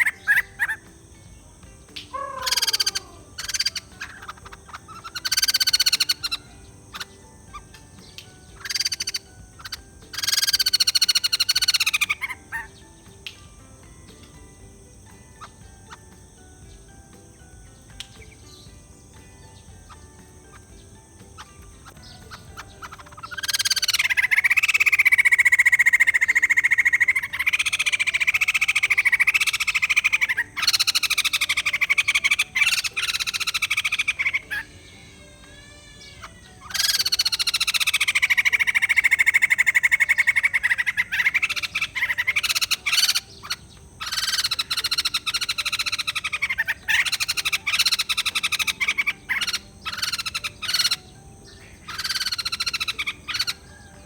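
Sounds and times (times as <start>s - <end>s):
bird harsh rattling chatter: 0.0s - 13.2s, 17.8s - 54.0s.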